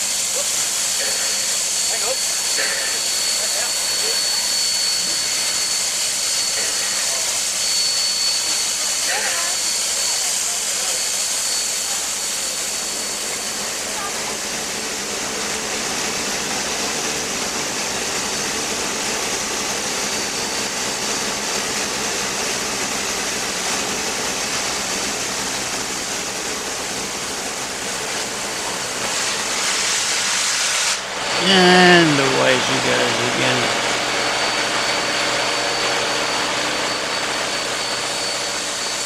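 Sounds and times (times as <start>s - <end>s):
steam locomotive hissing steam: 0.0s - 39.0s.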